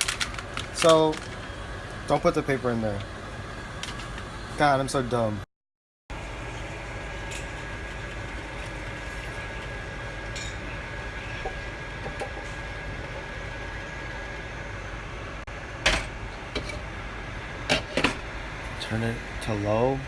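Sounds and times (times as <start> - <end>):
mechanical hum with high whine: 0.0 - 5.5, 6.1 - 20.0.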